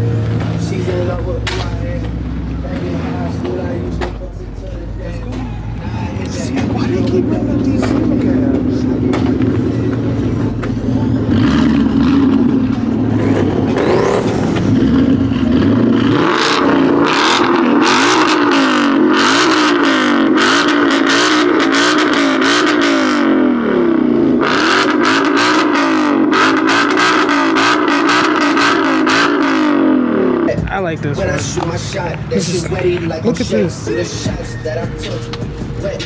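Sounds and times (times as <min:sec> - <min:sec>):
car engine idling and revving: 0:00.0 - 0:36.0
exhaust crackles: 0:00.0 - 0:36.0.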